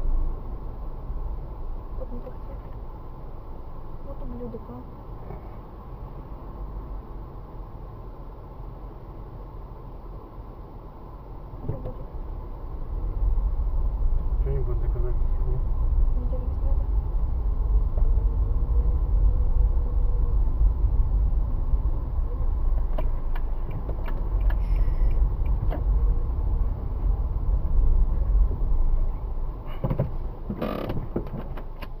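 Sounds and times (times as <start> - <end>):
car interior rumble: 0.0 - 32.0.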